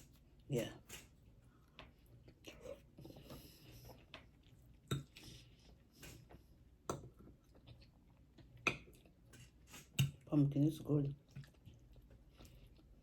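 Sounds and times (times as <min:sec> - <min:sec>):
person chewing food: 0:00.0 - 0:10.3, 0:11.2 - 0:13.0.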